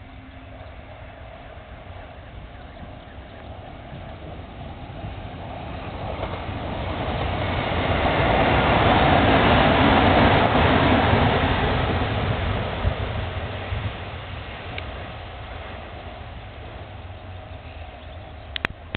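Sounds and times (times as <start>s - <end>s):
electric train passing: 0.0s - 18.9s
rail noise: 0.0s - 18.9s.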